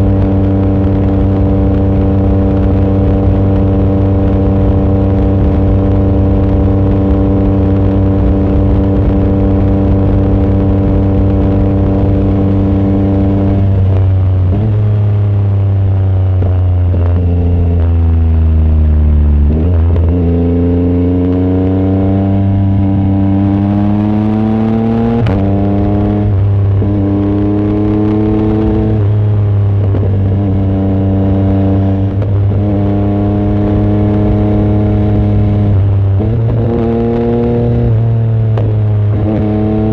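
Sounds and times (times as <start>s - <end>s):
loud motorcycle engine: 0.0s - 39.9s.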